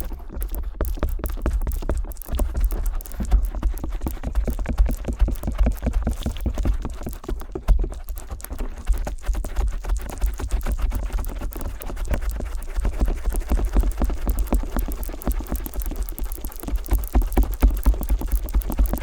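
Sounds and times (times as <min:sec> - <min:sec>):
ear pick scratching and tapping: 0:00.0 - 0:19.0.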